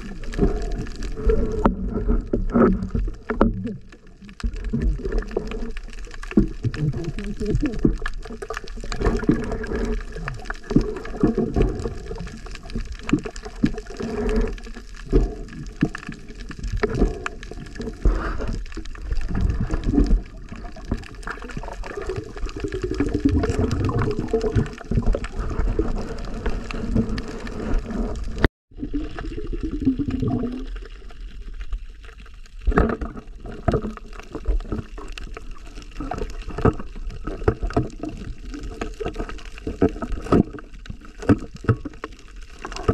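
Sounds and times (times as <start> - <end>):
muffled underwater water movement: 0.0 - 42.9.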